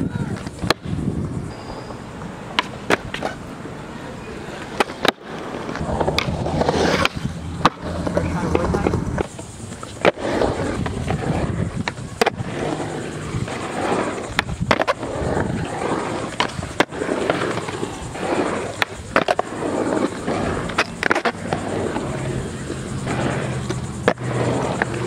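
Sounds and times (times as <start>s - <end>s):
skateboard clacks: 0.0s - 1.0s, 1.9s - 25.0s
skateboard wheels rolling on concrete: 0.0s - 25.0s.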